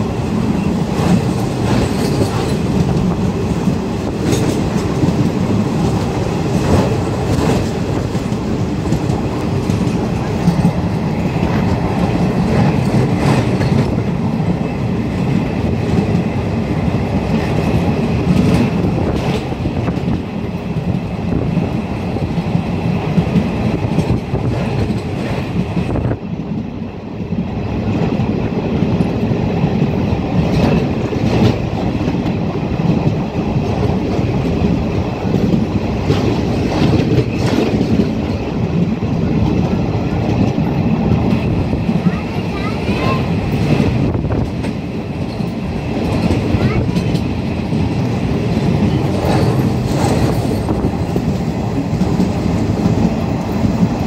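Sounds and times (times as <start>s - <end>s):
rail joint clacks: 0.0s - 54.0s
train wheels rumbling on rail: 0.0s - 54.0s.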